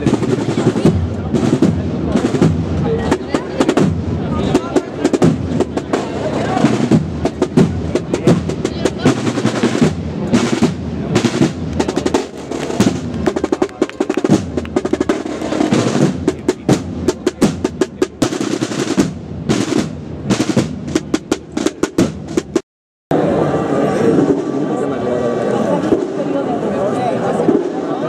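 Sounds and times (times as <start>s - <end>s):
marching snare drum rolls: 0.0s - 22.6s, 23.2s - 24.9s, 25.7s - 26.6s, 27.3s - 28.0s.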